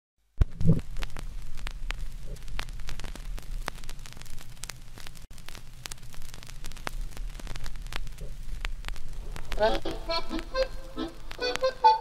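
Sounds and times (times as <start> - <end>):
crackling static: 0.2 - 12.0
sharp clicks: 0.4 - 12.0.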